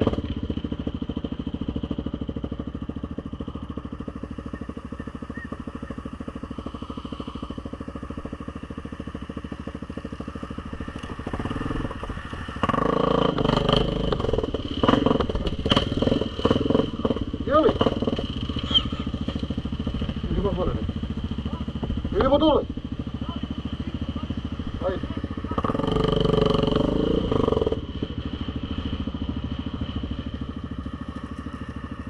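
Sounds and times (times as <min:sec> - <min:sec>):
atv engine idling and revving: 0:00.0 - 0:32.0.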